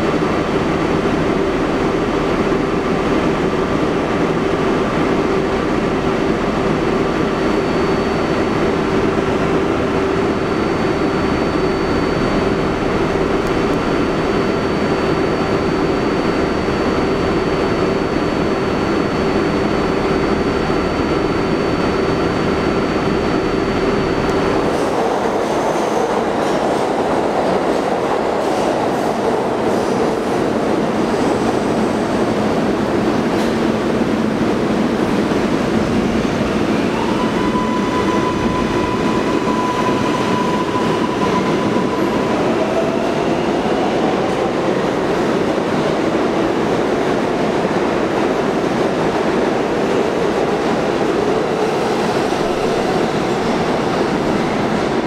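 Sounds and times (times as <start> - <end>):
subway train pulling out: 0.0 - 55.0.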